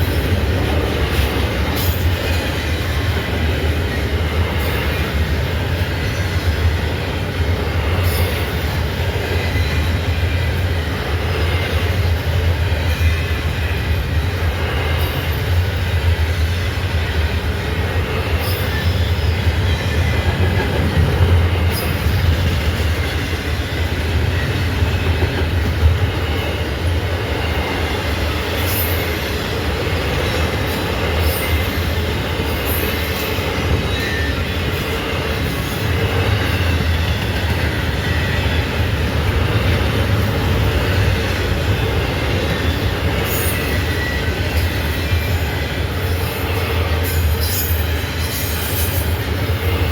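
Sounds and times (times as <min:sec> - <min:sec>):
freight train wheels rumbling: 0:00.0 - 0:49.9.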